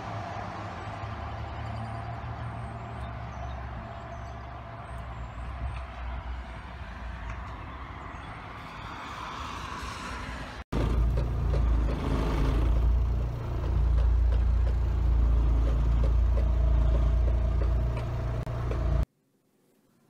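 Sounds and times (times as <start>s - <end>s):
outdoor noise haze: 0.0s - 20.0s.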